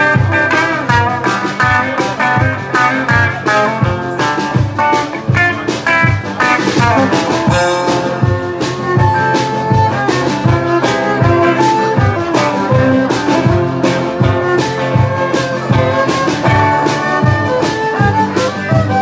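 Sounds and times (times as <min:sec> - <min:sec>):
drum kit steady beat: 0:00.0 - 0:19.0
fiddle bowed: 0:00.0 - 0:19.0
strummed electric guitars: 0:00.0 - 0:19.0.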